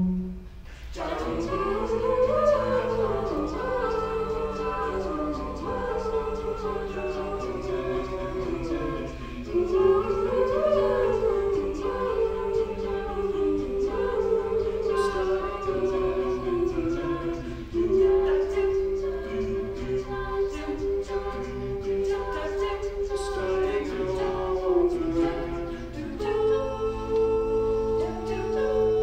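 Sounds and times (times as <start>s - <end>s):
a cappella group singing: 0.0s - 29.0s
vocal percussion: 0.0s - 29.0s.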